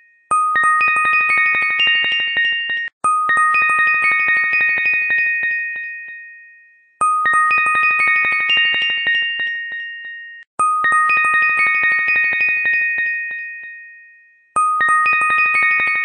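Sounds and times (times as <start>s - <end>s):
bright chime music: 0.0s - 16.0s.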